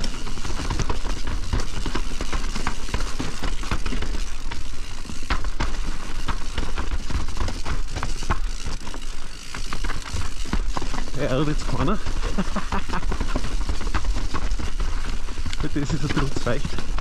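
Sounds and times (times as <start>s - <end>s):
bike chain and frame rattling: 0.0s - 17.0s
bike tyres rumbling over dirt: 0.0s - 17.0s.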